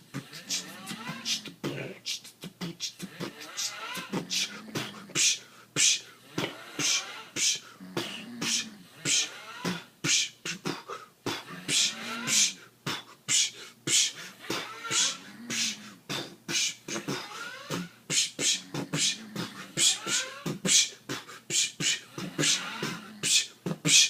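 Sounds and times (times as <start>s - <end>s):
beatbox rhythm: 0.0s - 24.0s
person snoring: 0.1s - 2.0s, 3.0s - 5.4s, 6.4s - 9.9s, 10.5s - 12.7s, 14.1s - 23.8s.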